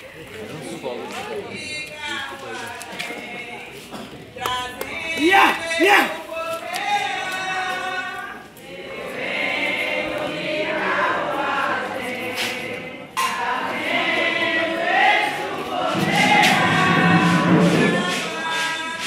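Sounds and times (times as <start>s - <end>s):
group chanting together: 2.6s - 19.0s.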